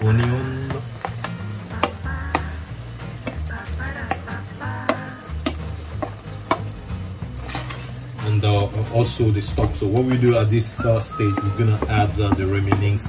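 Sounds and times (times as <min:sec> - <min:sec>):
wooden spoon scraping a pot: 0:00.0 - 0:13.0.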